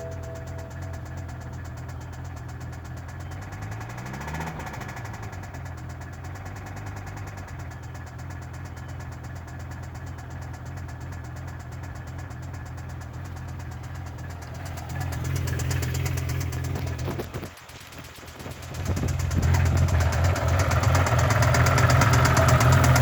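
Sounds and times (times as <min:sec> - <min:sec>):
car engine idling with knocking: 0:00.0 - 0:23.0.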